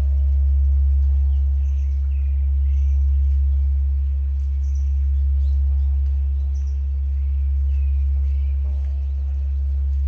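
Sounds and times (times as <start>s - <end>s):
bird chirping: 0.0s - 10.0s
temple bell humming: 0.0s - 10.0s.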